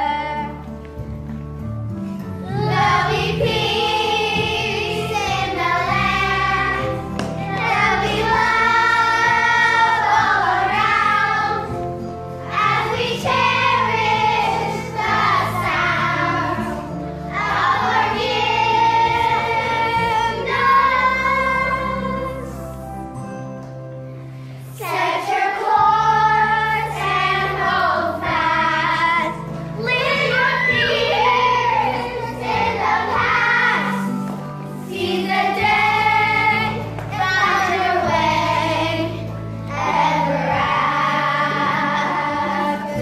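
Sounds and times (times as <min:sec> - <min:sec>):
children singing: 0:02.5 - 0:22.7, 0:24.8 - 0:43.0.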